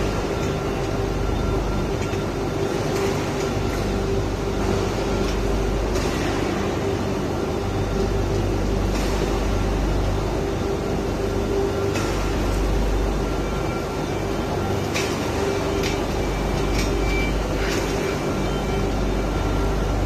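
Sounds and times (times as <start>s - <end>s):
low hum: 0.0s - 20.0s
workshop machinery drone: 0.0s - 20.0s.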